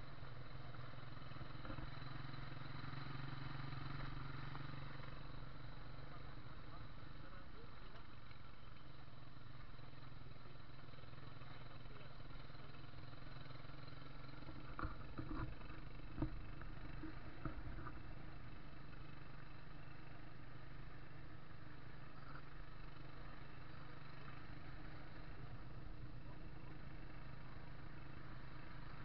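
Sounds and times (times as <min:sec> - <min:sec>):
motorcycle engine hum: 0:00.0 - 0:29.0.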